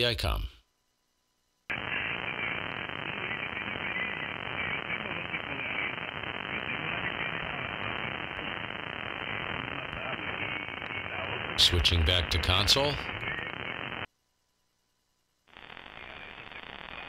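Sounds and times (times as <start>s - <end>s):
radio static: 1.7s - 14.1s, 15.5s - 17.0s.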